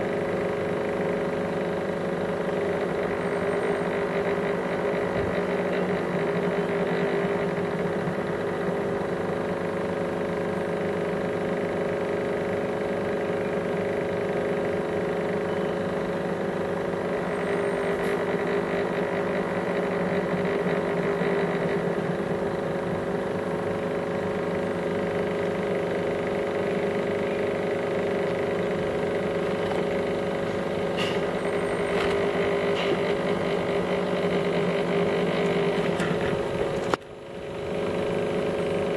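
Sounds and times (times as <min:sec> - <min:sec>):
motor humming: 0:00.0 - 0:38.9.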